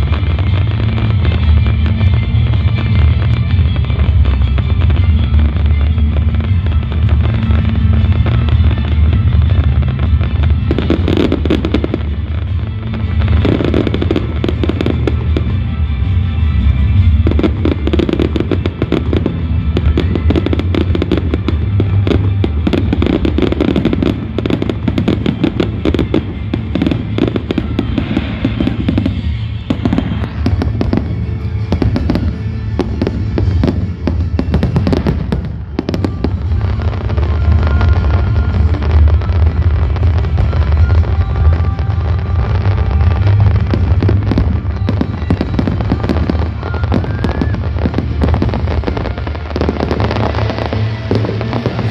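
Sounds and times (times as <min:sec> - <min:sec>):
fireworks bangs and crackle: 0:00.0 - 0:51.9
loud music with heavy bass: 0:00.0 - 0:51.9.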